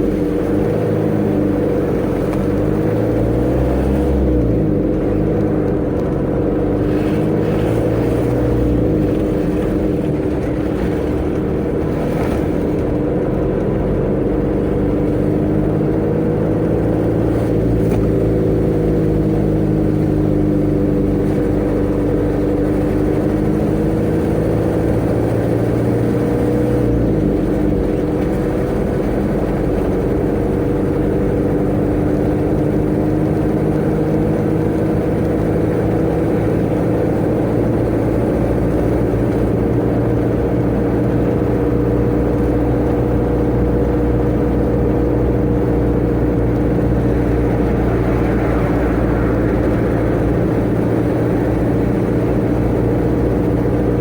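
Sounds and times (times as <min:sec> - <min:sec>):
road noise: 0:00.0 - 0:54.0
truck engine droning: 0:00.0 - 0:54.0.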